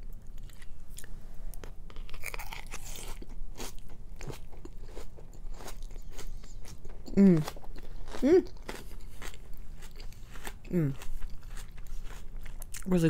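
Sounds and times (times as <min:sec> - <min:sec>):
crunching salad: 0:00.4 - 0:13.0.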